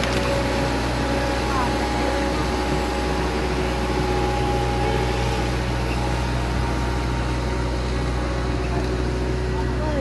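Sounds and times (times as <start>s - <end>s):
faint steady tones: 0.0s - 10.0s
heavy engine droning: 0.0s - 10.0s.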